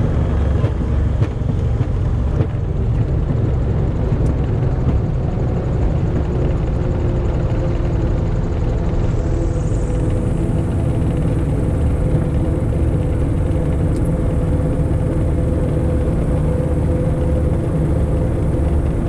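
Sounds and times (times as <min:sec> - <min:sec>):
aircraft engines droning: 0:00.0 - 0:19.0.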